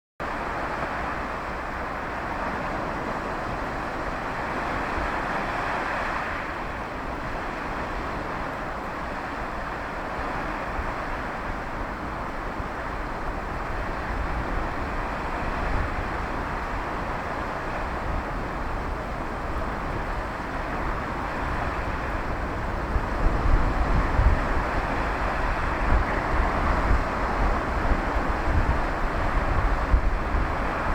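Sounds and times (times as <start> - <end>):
wind buffeting microphone: 0.3 - 30.9.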